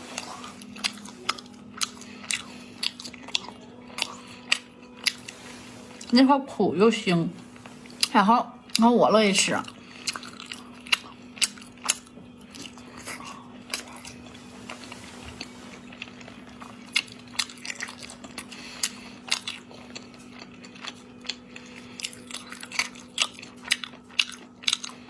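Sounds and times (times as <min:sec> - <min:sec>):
person chewing wetly: 0:00.0 - 0:05.4, 0:09.6 - 0:25.0
steady low hum: 0:00.0 - 0:25.0.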